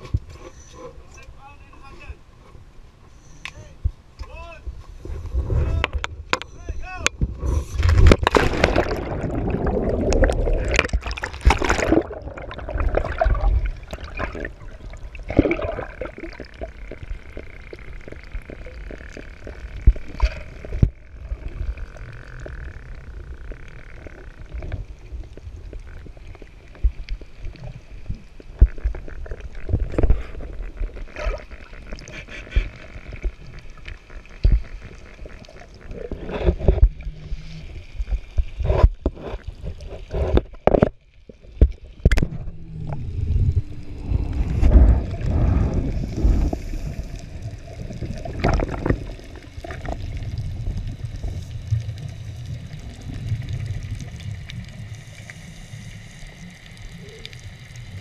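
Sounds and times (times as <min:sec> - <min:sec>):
underwater bubbles gurgling: 0:07.2 - 0:58.0.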